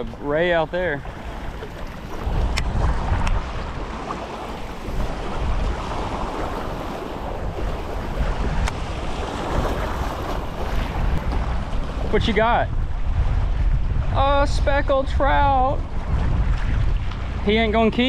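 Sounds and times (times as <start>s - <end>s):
waves washing: 0.0s - 18.0s
wind buffeting microphone: 0.0s - 18.0s.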